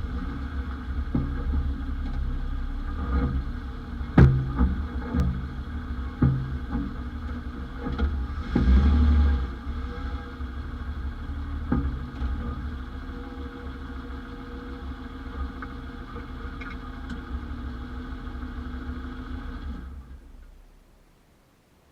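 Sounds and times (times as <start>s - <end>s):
car engine running: 0.0s - 21.1s.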